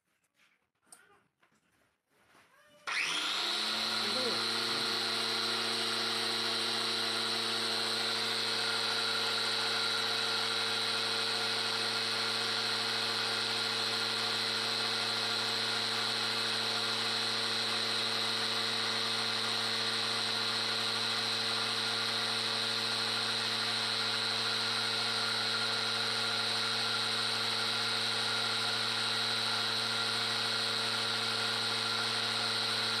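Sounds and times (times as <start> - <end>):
electric grain grinder running: 2.9 - 33.0.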